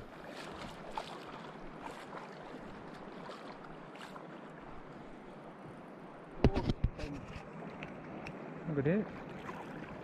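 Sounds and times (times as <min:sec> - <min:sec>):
sea water lapping and sloshing: 0:00.0 - 0:06.0, 0:07.1 - 0:10.0
faint water splashes: 0:00.0 - 0:10.0.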